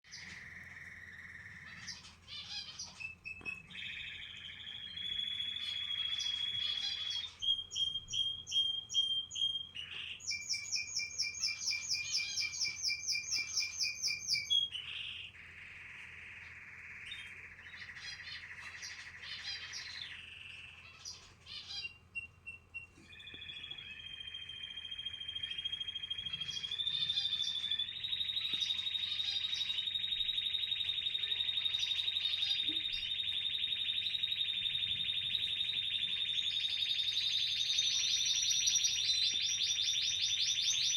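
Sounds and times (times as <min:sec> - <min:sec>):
canaries chirping and trilling: 0:00.1 - 0:40.9.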